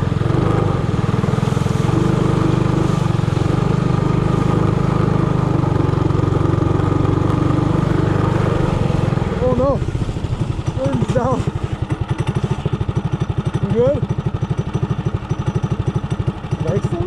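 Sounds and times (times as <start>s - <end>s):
minibike engine running: 0.0s - 17.0s.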